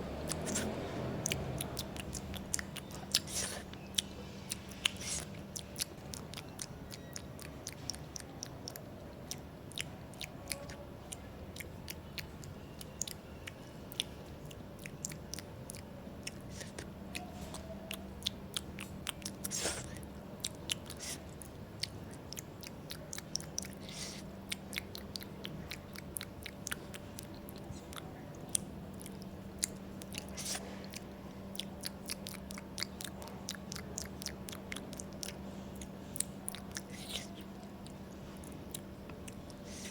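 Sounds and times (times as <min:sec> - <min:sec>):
person chewing food: 0:00.1 - 0:39.9.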